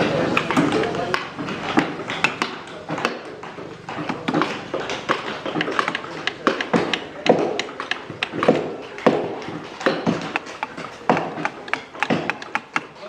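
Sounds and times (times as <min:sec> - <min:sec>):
mallets tapping chisels into wood: 0:00.4 - 0:13.0.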